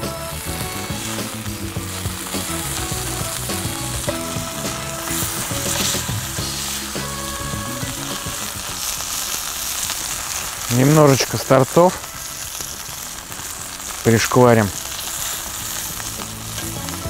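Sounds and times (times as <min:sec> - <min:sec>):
steaks sizzling in a frying pan: 0:00.0 - 0:17.0.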